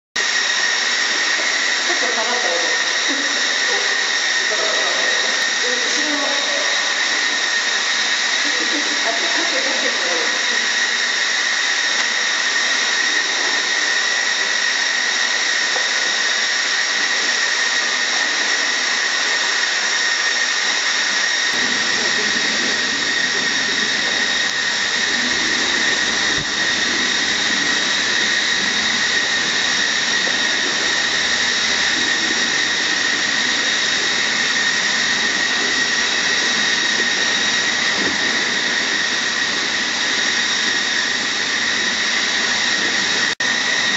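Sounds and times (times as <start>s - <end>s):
high-pitched machinery whine: 0.2s - 43.9s.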